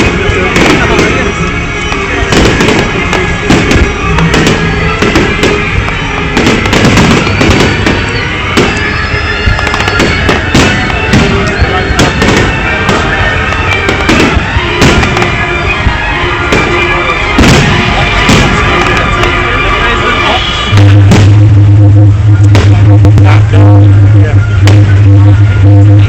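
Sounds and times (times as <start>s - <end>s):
fireworks bangs and crackling: 0.0s - 26.0s
loud music: 0.0s - 26.0s.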